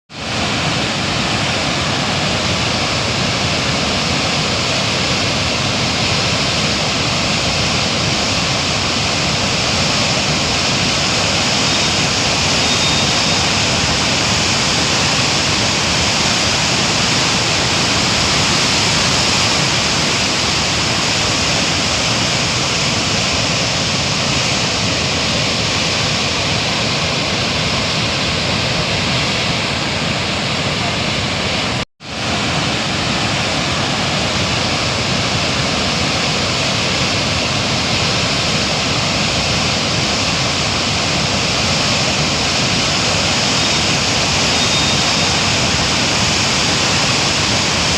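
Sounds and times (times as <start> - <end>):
water rushing through gates: 0.1 - 47.9.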